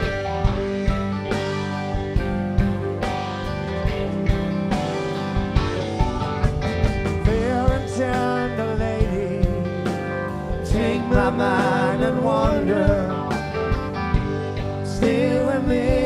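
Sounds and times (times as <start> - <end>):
drums beating: 0.0 - 16.0
lead guitar line bending: 0.0 - 16.0
live rock band playing: 0.0 - 16.0.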